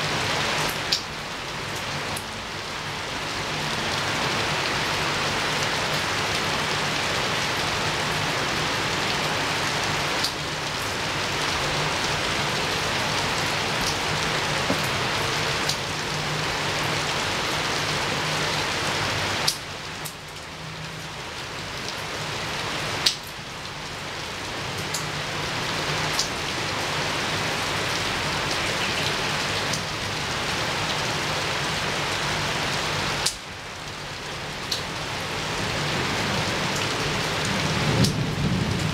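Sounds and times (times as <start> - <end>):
heavy rain on window: 0.0 - 38.9.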